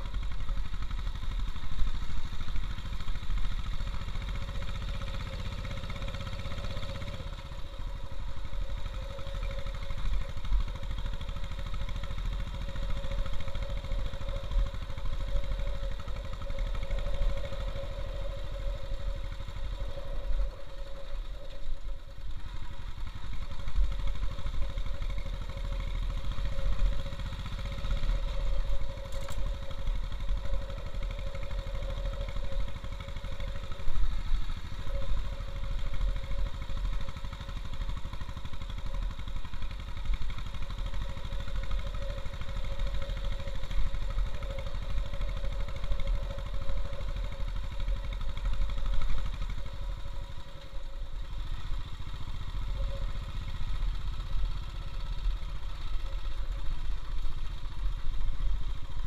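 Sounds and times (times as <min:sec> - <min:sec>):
motorcycle engine running: 0:00.0 - 0:59.0
tyres on gravel road: 0:00.0 - 0:59.0.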